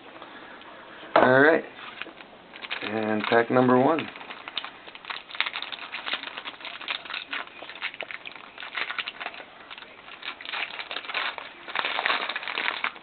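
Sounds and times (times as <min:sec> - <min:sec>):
wrapper crinkling and tearing: 0:01.8 - 0:13.0.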